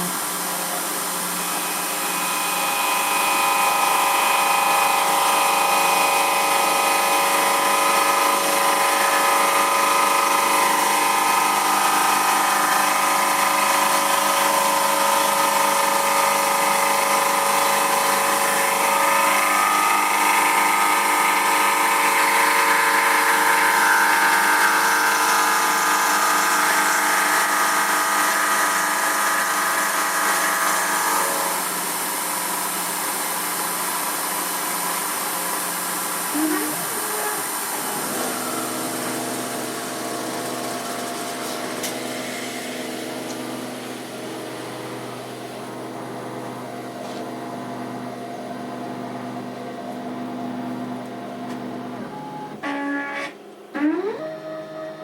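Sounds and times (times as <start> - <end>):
milling machine whining: 0.0 - 55.0.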